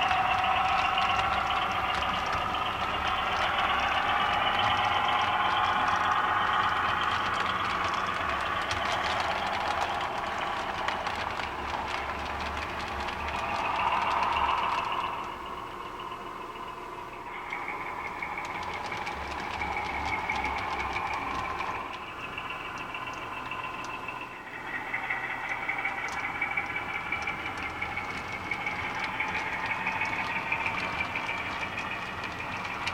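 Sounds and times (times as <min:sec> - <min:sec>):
model train running on track: 0:00.0 - 0:32.9
wheels clicking over rails: 0:00.0 - 0:32.9.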